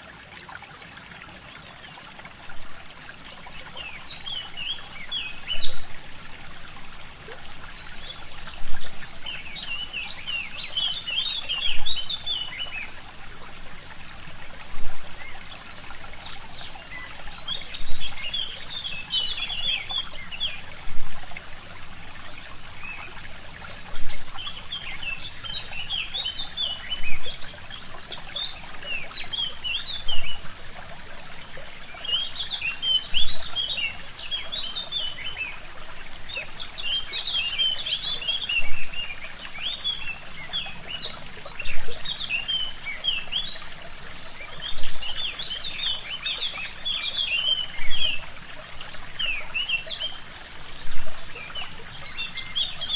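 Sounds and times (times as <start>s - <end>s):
brook trickling and gurgling: 0.0s - 52.9s
songbirds chirping: 0.2s - 52.9s.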